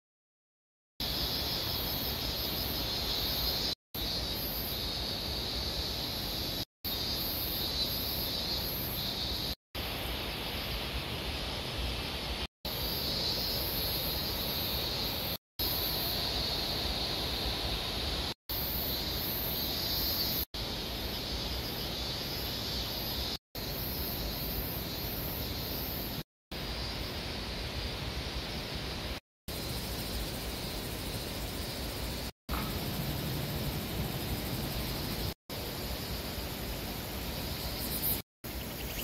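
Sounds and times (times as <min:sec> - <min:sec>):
insects chirring: 0:01.0 - 0:39.0
steady outdoor hiss: 0:01.0 - 0:39.0.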